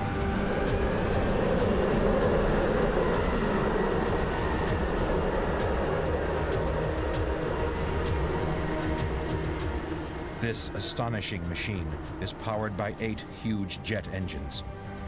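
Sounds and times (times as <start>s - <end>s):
jet engines rumbling: 0.0s - 14.6s.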